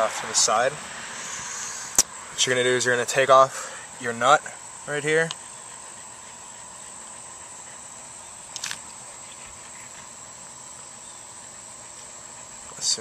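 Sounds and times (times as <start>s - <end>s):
high-pitched background hiss: 0.0s - 13.0s.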